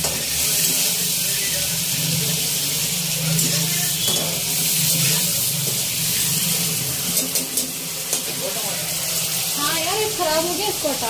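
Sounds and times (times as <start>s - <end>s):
cheese sizzling in oil: 0.0s - 11.0s.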